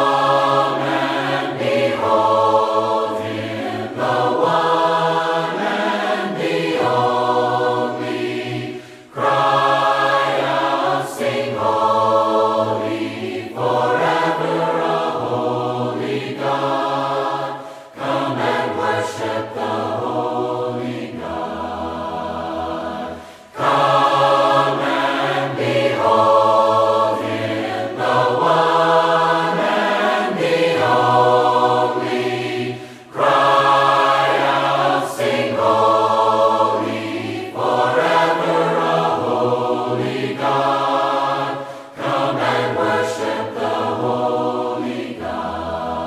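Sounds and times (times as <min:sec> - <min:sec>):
choir singing a hymn: 0:00.0 - 0:46.0.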